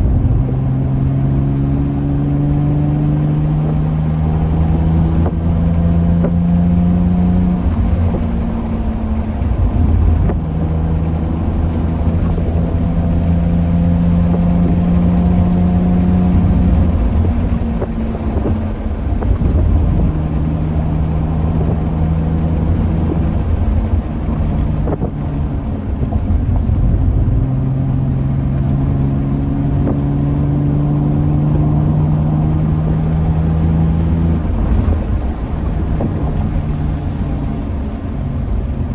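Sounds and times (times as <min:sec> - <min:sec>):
car engine running: 0:00.0 - 0:38.9
road rumble: 0:00.0 - 0:38.9.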